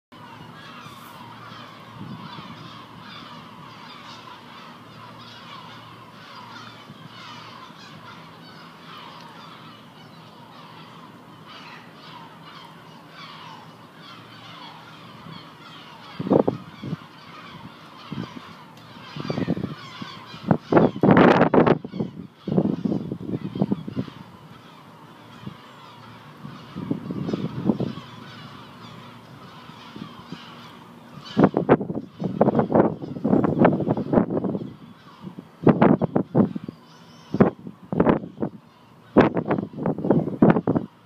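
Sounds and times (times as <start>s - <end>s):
gulls calling: 0.1s - 41.0s.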